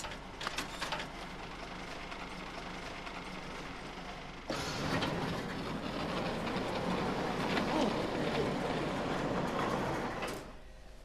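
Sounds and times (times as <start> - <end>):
conveyor and strapping machine hum: 0.0 - 11.0.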